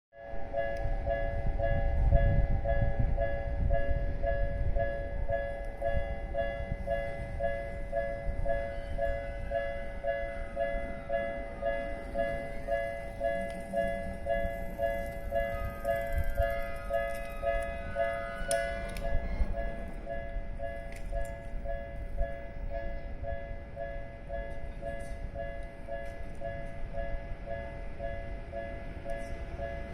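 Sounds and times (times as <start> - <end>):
level crossing warning bell: 0.2 - 29.9
train rumbling past: 0.2 - 29.9.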